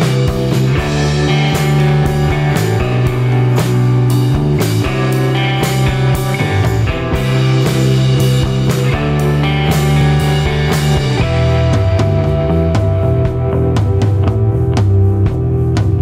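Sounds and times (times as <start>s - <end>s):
rock music with guitar and drums: 0.0s - 16.0s.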